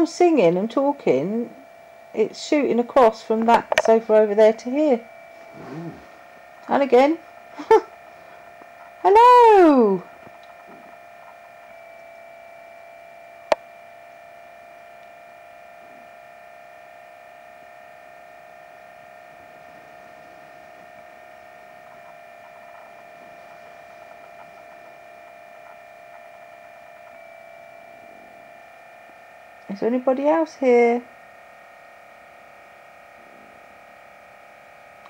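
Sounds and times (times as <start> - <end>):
high electrical whine: 0.0 - 35.0.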